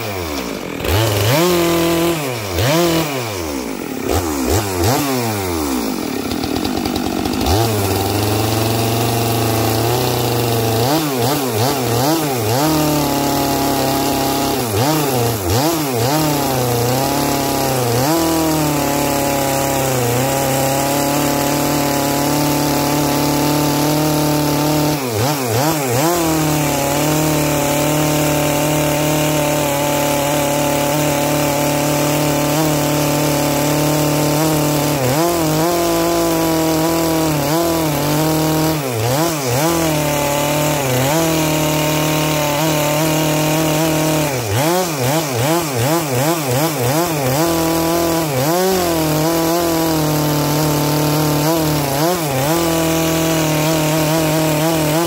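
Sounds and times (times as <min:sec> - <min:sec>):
chainsaw sawing through log: 0:00.0 - 0:55.0.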